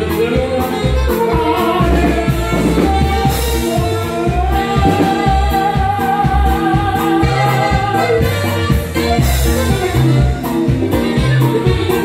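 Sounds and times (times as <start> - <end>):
person singing: 0.0 - 12.0.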